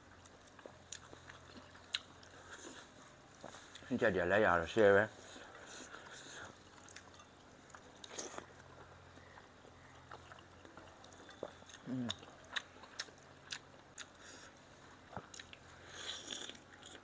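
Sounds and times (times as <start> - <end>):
close-mic chewing: 0.0 - 17.0.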